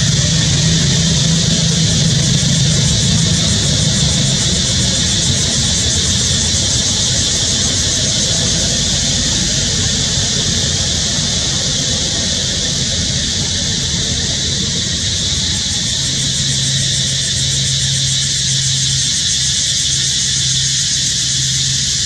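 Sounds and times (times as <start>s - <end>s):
low rumble: 0.0s - 18.2s
high-pitched cicada drone: 0.0s - 22.0s.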